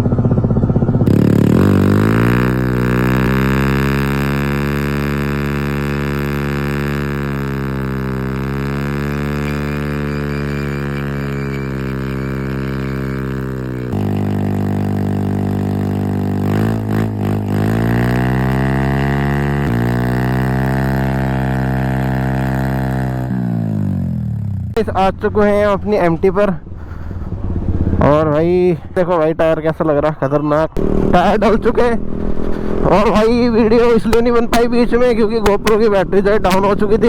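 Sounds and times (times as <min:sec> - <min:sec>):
exhaust cracks: 0:00.0 - 0:28.6, 0:30.8 - 0:37.0
motorcycle engine at steady revs: 0:00.0 - 0:29.0, 0:30.8 - 0:37.0.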